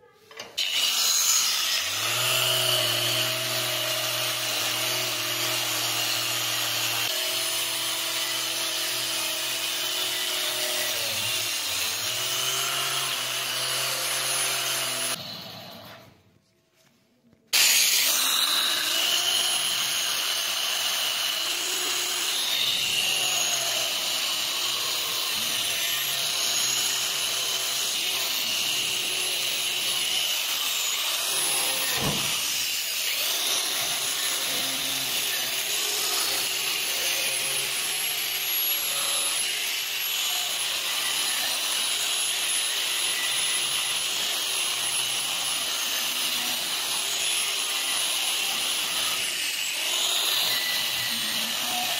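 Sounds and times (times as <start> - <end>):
angle grinder whining on steel: 0.4 - 16.2, 17.6 - 51.9.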